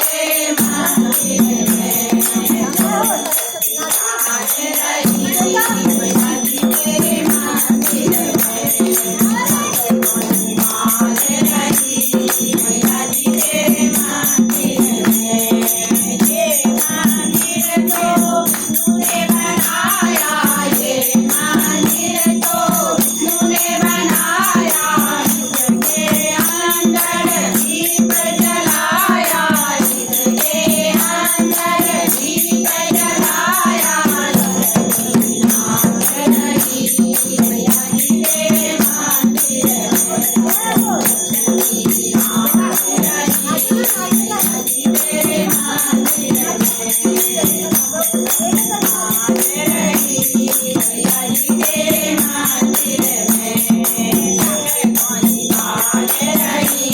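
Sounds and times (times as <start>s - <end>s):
metallic jingling percussion: 0.0s - 56.9s
voices chanting together: 0.0s - 56.9s.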